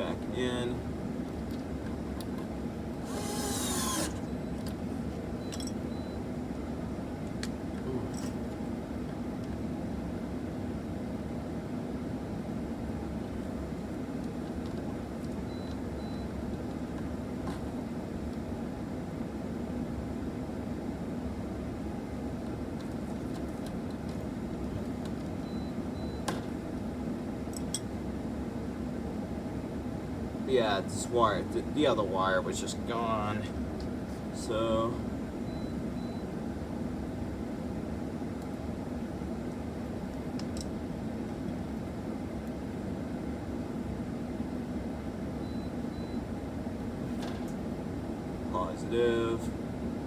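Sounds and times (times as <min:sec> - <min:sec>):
mechanical room hum: 0:00.0 - 0:50.0.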